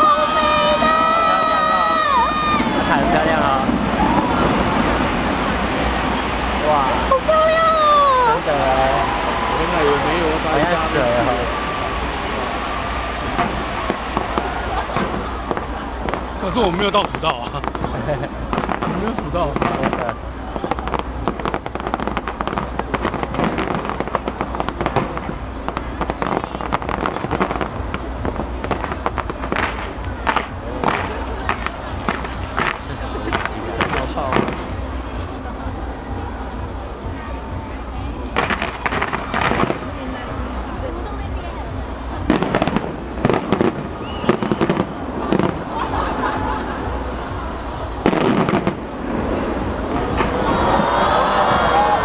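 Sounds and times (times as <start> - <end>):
fireworks popping and crackling: 0.0 - 52.0
loud firework bangs: 0.0 - 52.0.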